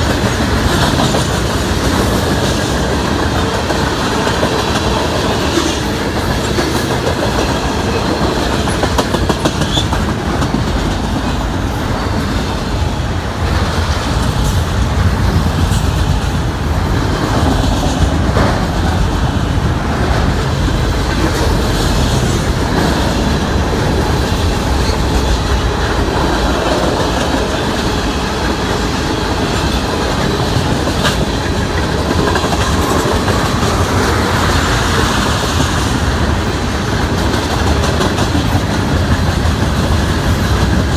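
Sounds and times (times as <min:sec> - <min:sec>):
train wheels rumbling on rail: 0:00.0 - 0:40.9
wheels clicking over rail joints: 0:00.0 - 0:40.9.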